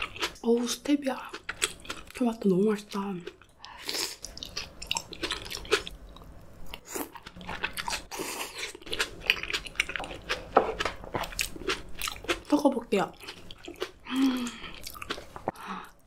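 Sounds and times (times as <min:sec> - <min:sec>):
chewing with mouth clicks: 0:01.2 - 0:02.2, 0:02.9 - 0:12.5, 0:13.1 - 0:16.0.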